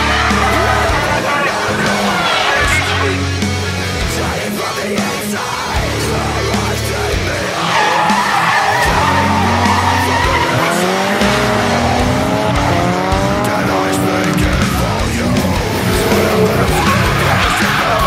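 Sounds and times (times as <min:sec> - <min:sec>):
background music: 0:00.0 - 0:18.0
drift car engines revving: 0:00.0 - 0:18.0
tyres screeching: 0:00.0 - 0:18.0.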